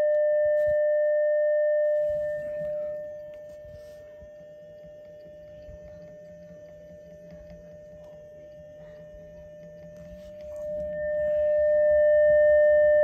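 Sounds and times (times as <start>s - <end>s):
faint antenna motor hum: 0.0s - 13.0s
steady radio tone: 0.2s - 13.0s.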